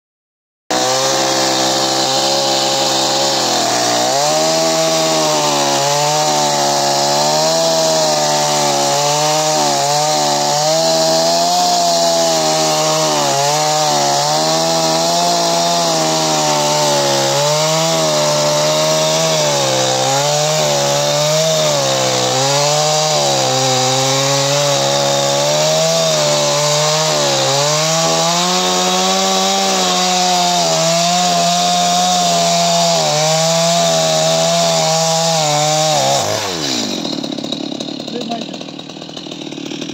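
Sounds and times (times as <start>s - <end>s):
chainsaw cutting log: 0.7s - 39.9s.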